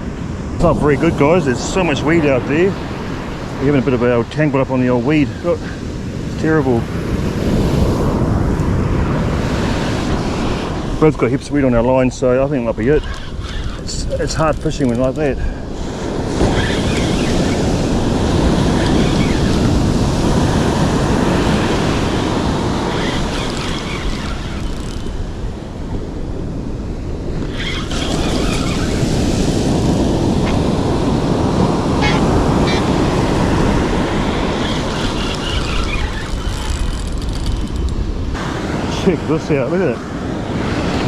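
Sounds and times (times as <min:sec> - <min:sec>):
surf washing onto beach: 0:00.0 - 0:41.0
wind buffeting microphone: 0:00.0 - 0:41.0.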